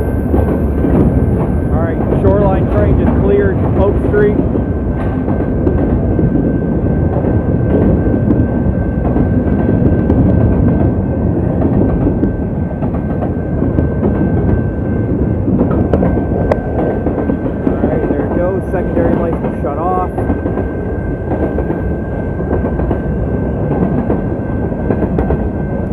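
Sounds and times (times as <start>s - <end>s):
train wheels clattering on rails: 0.0s - 25.9s.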